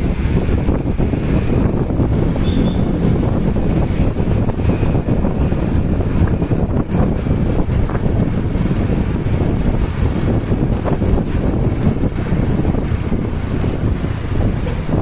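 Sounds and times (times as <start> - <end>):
bus engine and exhaust rumbling: 0.0 - 15.0
wind buffeting microphone: 0.0 - 15.0.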